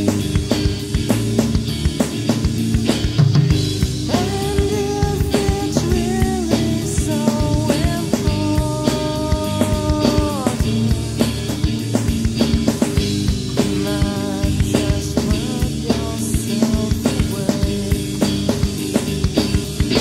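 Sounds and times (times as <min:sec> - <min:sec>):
drum kit beat: 0:00.0 - 0:20.0
rock band playing: 0:00.0 - 0:20.0.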